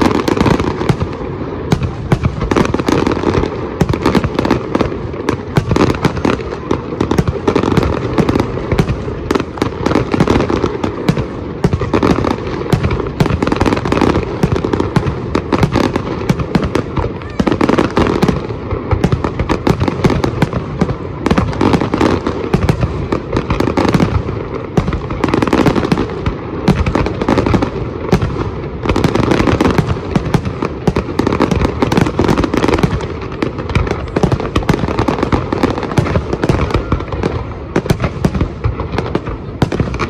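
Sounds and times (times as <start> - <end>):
fireworks crackling and popping: 0.0 - 40.0
loud firework bangs: 0.0 - 40.0.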